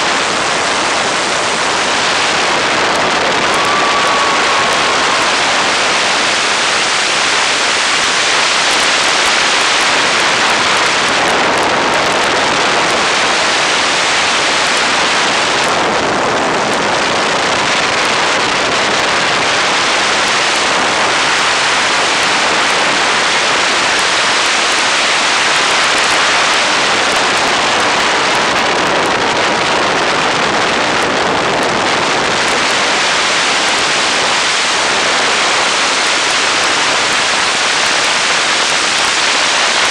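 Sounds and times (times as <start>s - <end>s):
aircraft engine running: 0.0s - 39.9s
wind rushing over open cockpit: 0.0s - 39.9s.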